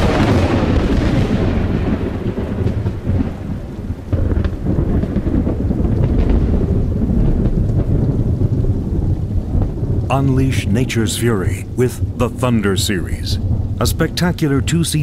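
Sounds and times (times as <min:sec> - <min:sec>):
steady downpour of rain: 0:00.0 - 0:15.0
thunder rumbling: 0:00.0 - 0:15.0.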